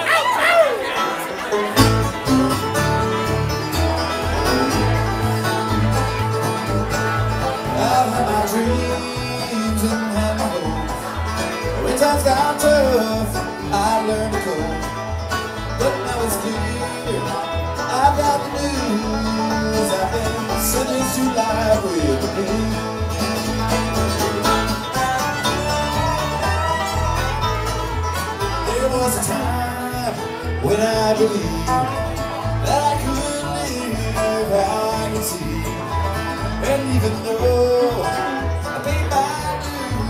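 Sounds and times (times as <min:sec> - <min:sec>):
bluegrass band playing: 0:00.0 - 0:40.0.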